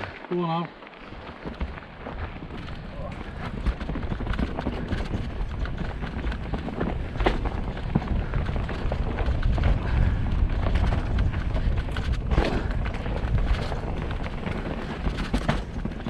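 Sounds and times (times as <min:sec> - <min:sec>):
bike rattling over stones: 0:00.0 - 0:16.0
tyres on dirt: 0:00.0 - 0:16.0
wind rumble on microphone: 0:01.0 - 0:16.0.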